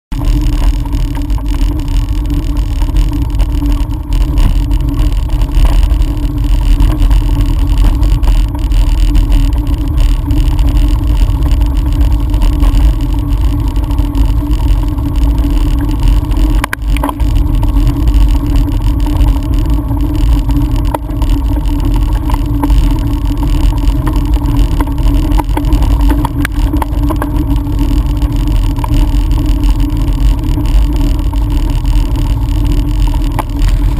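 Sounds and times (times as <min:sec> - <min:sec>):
steady hum: 0:00.1 - 0:33.9.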